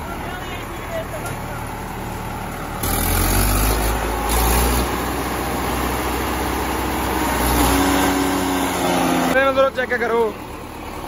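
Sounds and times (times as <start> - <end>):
harvester clatter: 0.0 - 10.8
tractor diesel engine drone: 0.0 - 11.0.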